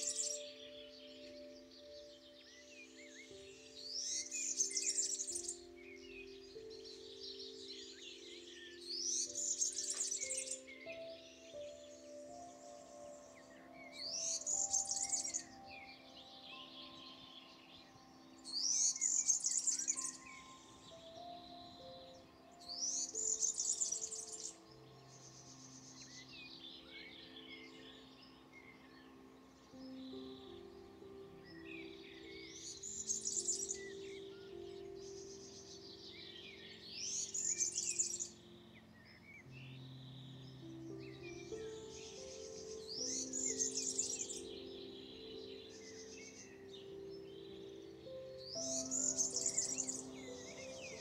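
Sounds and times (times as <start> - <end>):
soft background music: 0.0 - 51.0
songbird singing: 0.0 - 51.0.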